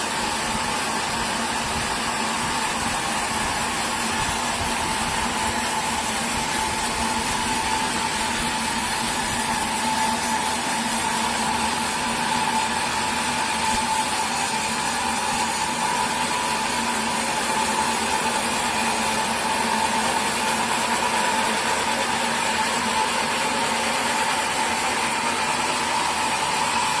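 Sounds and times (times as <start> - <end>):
sawmill machinery humming: 0.0 - 27.0.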